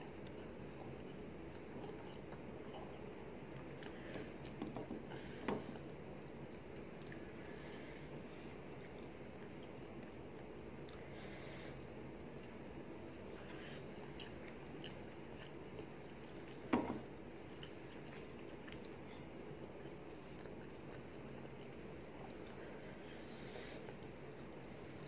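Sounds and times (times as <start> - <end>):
person chewing food: 0.0 - 7.3, 8.7 - 11.1, 11.7 - 22.8.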